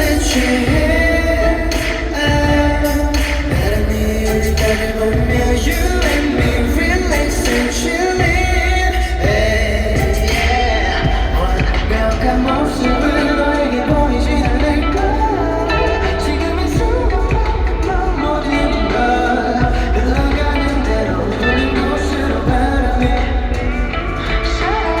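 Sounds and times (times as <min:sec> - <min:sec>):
man singing: 0:00.0 - 0:25.0
pop band with heavy bass: 0:00.0 - 0:25.0.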